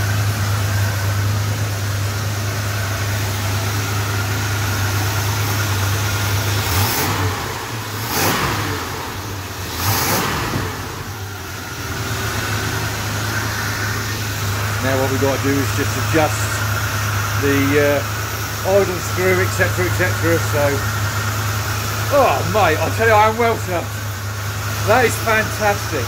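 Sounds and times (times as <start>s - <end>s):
v eight engine idling and revving: 0.0s - 26.0s.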